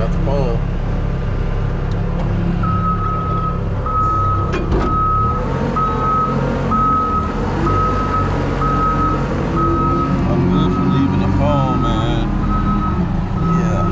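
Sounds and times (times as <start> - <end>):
diesel engine running: 0.0 - 13.9
truck backup alarm beeping: 2.6 - 13.9.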